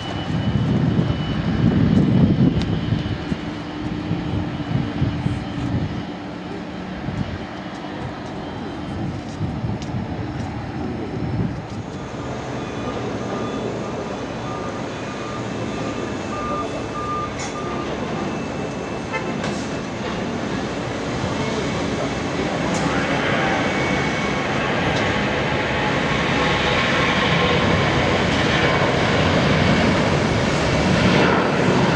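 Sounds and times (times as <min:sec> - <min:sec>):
faint engine whine: 0:00.0 - 0:31.9
jet engine rumble on takeoff: 0:00.0 - 0:31.9
taxiing airliner engines: 0:00.0 - 0:31.9.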